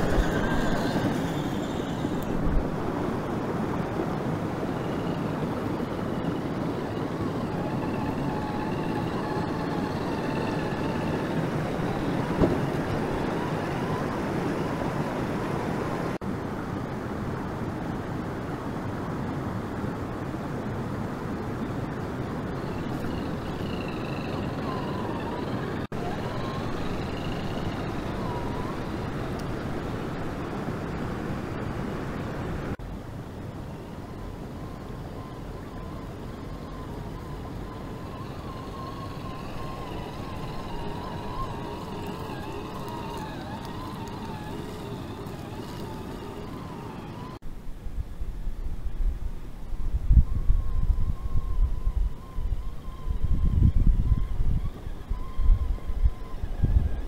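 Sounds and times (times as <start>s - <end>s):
faint wavering whine: 0.0s - 16.2s, 20.9s - 31.8s, 32.5s - 47.7s, 48.5s - 57.0s.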